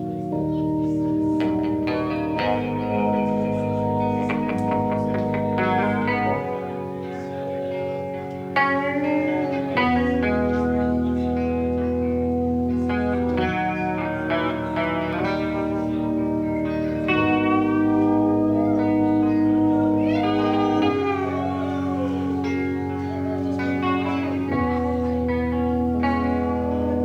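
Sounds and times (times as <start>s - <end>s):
live band with guitar: 0.0s - 27.0s.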